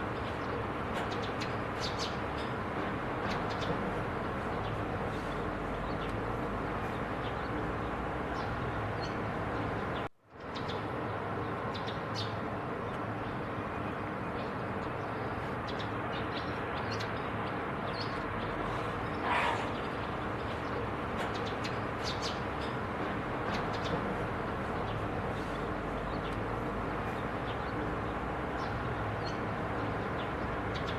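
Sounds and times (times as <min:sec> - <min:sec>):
steady outdoor background rush: 0:00.0 - 0:30.9.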